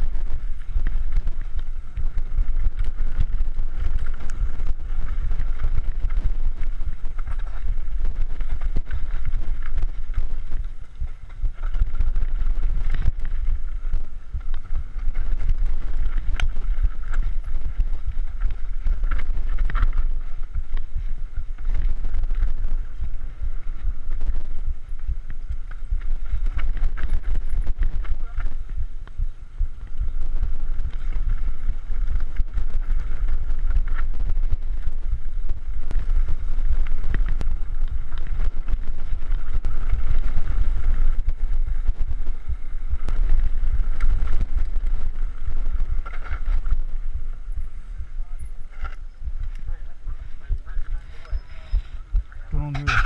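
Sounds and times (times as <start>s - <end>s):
bike knocking and rattling: 0.0s - 53.0s
tyres over dirt and roots: 0.0s - 53.0s
wind rumble on microphone: 0.0s - 53.0s.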